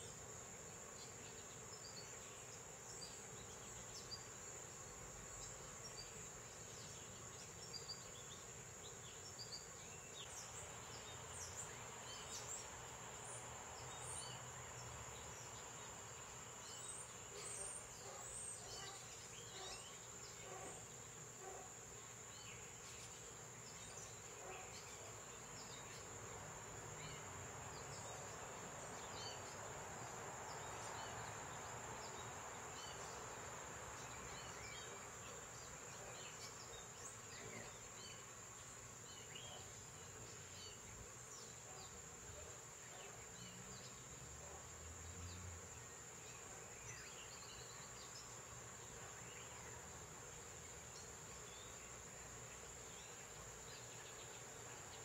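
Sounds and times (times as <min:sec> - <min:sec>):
faint insect chirps: 0:00.0 - 0:55.0
insects droning: 0:00.0 - 0:55.0.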